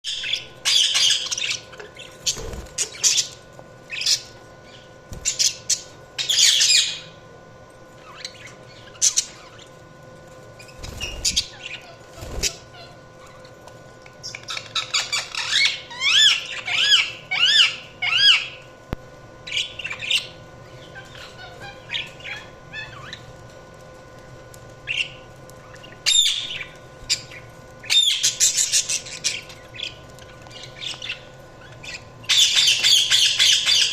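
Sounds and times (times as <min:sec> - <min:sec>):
budgerigars chirping and squawking: 0:00.1 - 0:07.2, 0:08.0 - 0:09.8, 0:10.6 - 0:13.5, 0:14.2 - 0:18.6, 0:19.5 - 0:23.3, 0:24.8 - 0:33.9.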